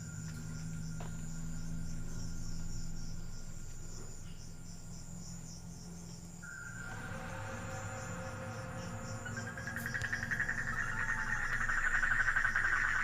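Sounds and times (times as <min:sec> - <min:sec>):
crickets chirping in pulsing trill: 0:00.0 - 0:13.0
low steady hum: 0:00.0 - 0:13.0
thin high insect tone: 0:00.0 - 0:13.0.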